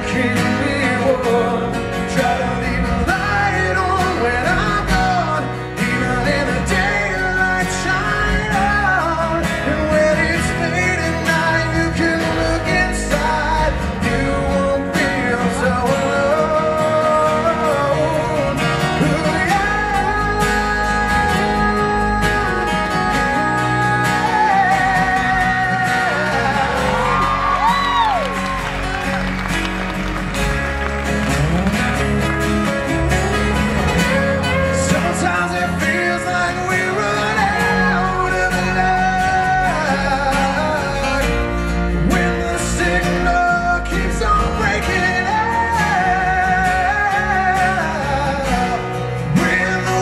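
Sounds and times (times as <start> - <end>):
man singing: 0.0 - 29.0, 32.7 - 50.0
live band playing: 0.0 - 50.0
strummed acoustic guitar: 0.0 - 50.0.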